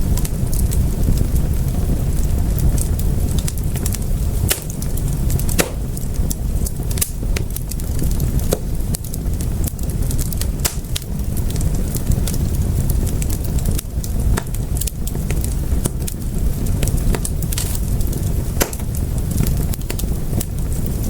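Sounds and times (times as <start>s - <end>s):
fire pops and snaps: 0.0s - 21.0s
low rumble of flames: 0.0s - 21.0s.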